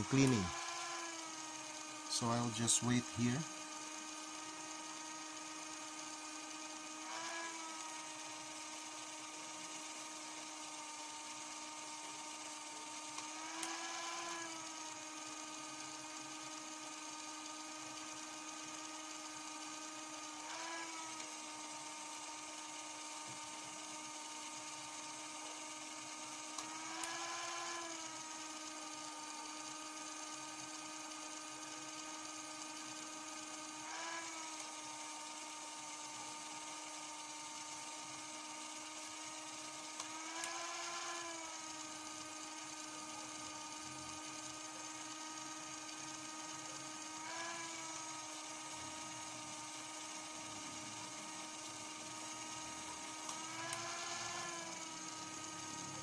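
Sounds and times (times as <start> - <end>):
small electric motor whine: 0.0 - 56.0.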